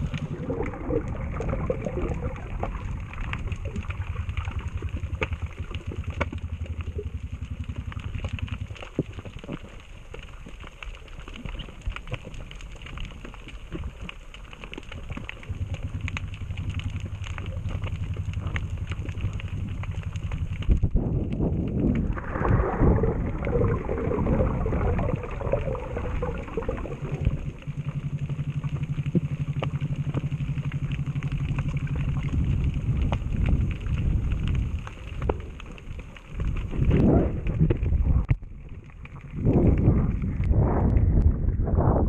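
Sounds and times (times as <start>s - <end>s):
rushing and bubbling water: 0.0s - 42.0s
underwater pulsing hum: 0.0s - 42.0s.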